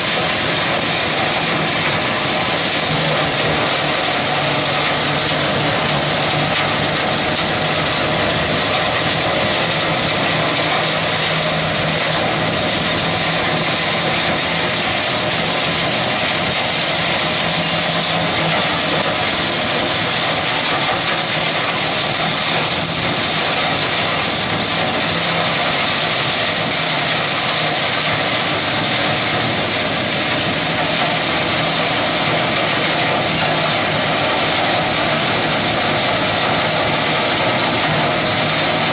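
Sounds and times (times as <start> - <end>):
flail mower shredding grass: 0.0 - 38.9
loader engine drone: 0.0 - 38.9.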